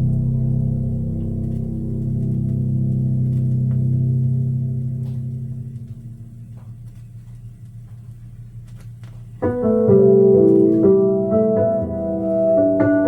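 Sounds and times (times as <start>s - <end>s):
held chord: 0.0s - 7.0s, 9.4s - 13.0s
piano intro: 0.0s - 7.6s, 8.4s - 13.0s.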